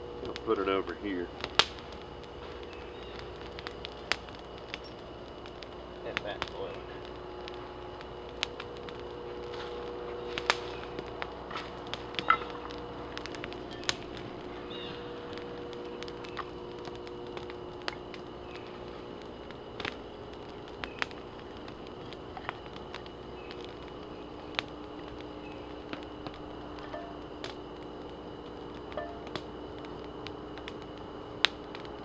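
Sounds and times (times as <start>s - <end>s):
campfire crackling and popping: 0.0s - 32.0s
rush of flame: 0.0s - 32.0s.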